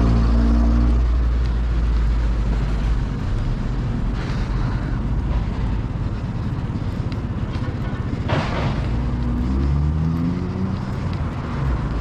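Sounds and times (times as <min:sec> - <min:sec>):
passing vehicle engine hum: 0:00.0 - 0:12.0
wind and road noise: 0:00.0 - 0:12.0.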